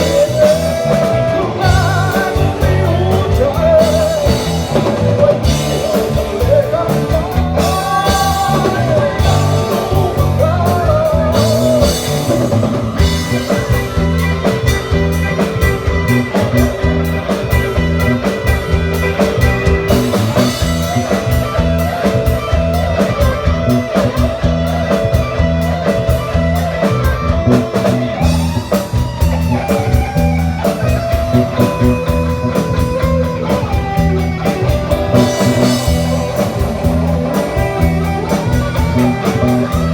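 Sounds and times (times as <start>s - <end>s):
drum kit: 0.0s - 39.9s
electric guitar: 0.0s - 39.9s
rock band playing: 0.0s - 39.9s.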